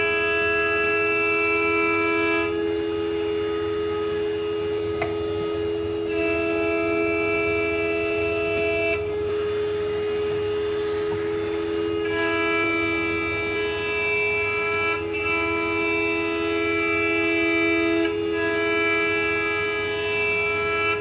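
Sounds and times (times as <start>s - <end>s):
engraving spindle whine: 0.0s - 21.0s.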